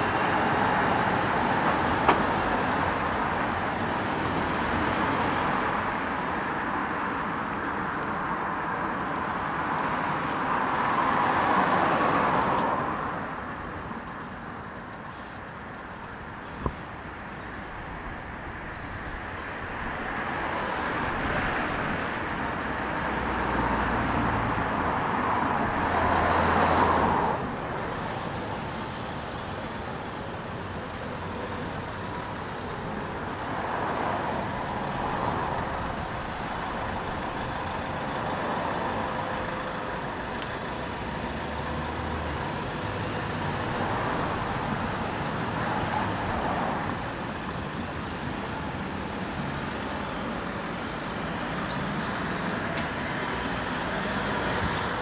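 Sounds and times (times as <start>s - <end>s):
heavy vehicle rumble: 0.0s - 55.0s
road traffic passing: 0.0s - 55.0s.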